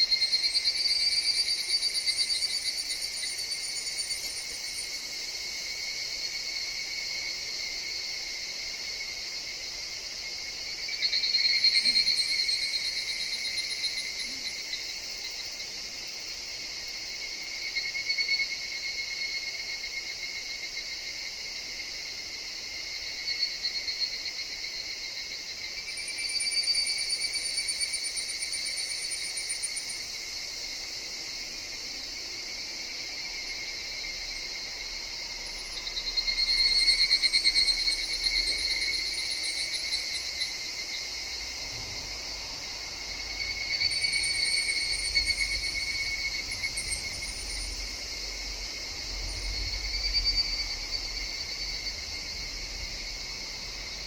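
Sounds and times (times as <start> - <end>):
cicadas trilling: 0.0 - 54.0
high drone of insects: 0.0 - 54.0.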